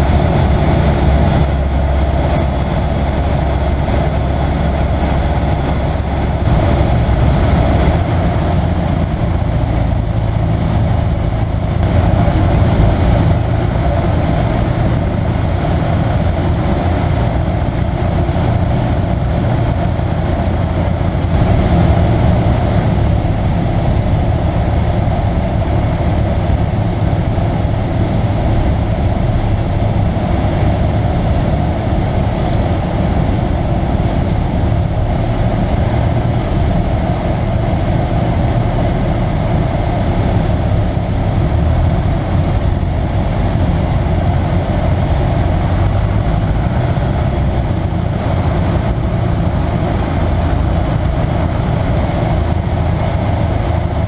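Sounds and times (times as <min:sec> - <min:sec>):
propeller engine droning: 0:00.0 - 0:54.0
wind noise: 0:00.0 - 0:54.0.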